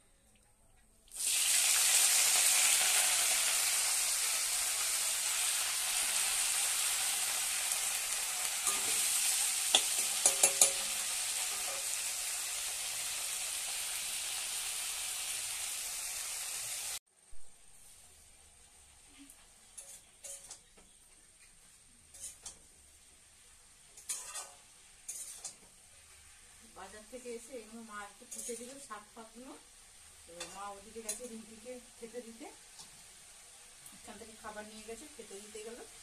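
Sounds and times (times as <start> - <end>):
greens sizzling in hot oil: 1.1 - 17.0, 17.8 - 36.0.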